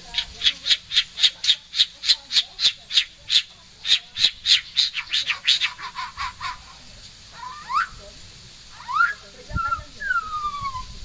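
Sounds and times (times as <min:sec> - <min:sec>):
bird singing: 0:00.0 - 0:06.6, 0:08.7 - 0:11.0.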